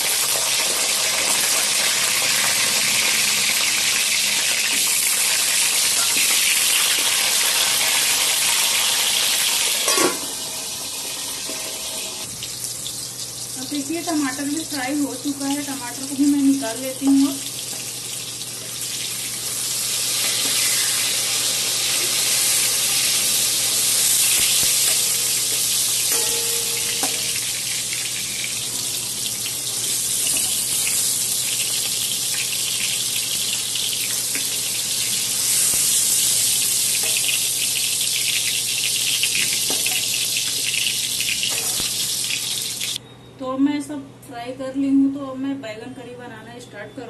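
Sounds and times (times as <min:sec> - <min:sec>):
hot oil sizzling: 0:00.0 - 0:43.0.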